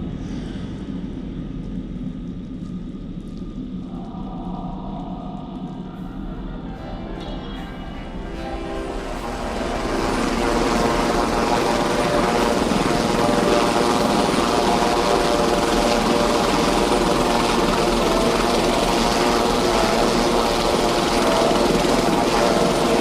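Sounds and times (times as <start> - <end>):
loud mechanical drone: 4.0 - 23.0.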